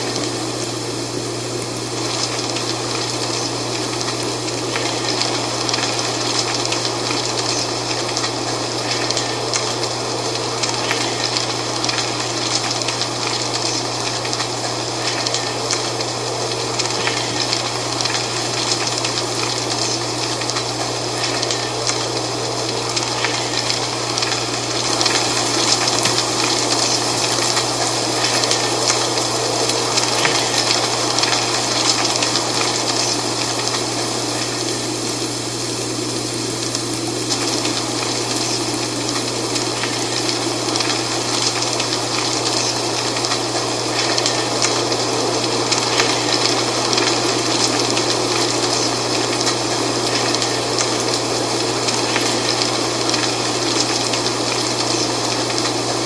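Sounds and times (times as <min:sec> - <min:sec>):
dry leaves rustling in wind: 0:00.0 - 0:56.0.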